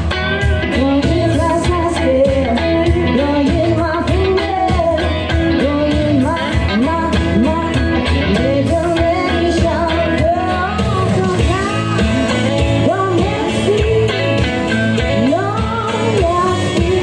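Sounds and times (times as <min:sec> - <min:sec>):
strummed electric guitar: 0:00.0 - 0:17.0
woman singing into a microphone: 0:00.0 - 0:17.0.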